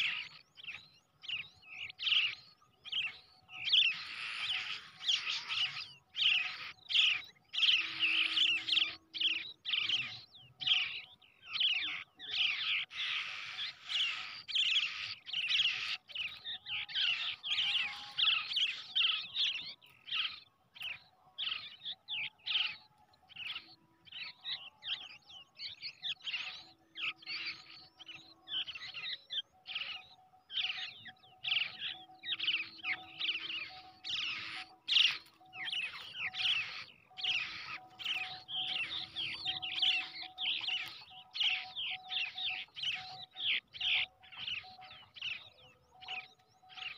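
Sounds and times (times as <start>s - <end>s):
shrikes calling with high chirps: 0.0s - 46.9s.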